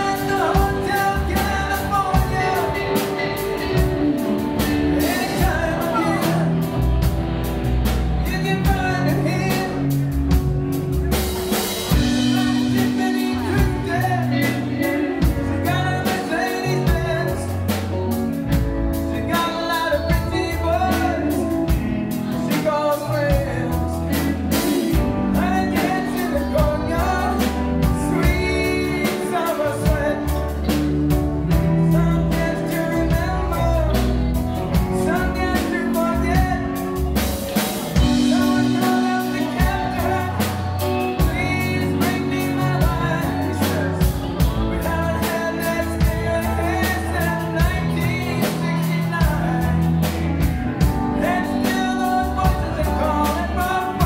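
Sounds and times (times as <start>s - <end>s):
bass guitar: 0.0s - 54.0s
drum kit: 0.0s - 54.0s
electric guitars: 0.0s - 54.0s
keyboards: 0.0s - 54.0s
lead vocals singing: 0.0s - 54.0s.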